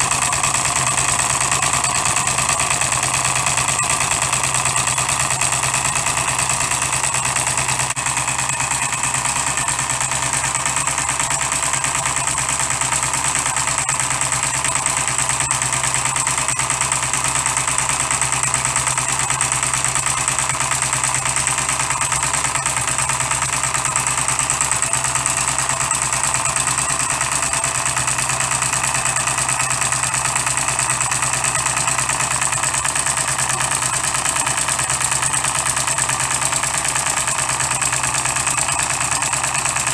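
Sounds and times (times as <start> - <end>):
model diesel engine running: 0.0 - 39.9.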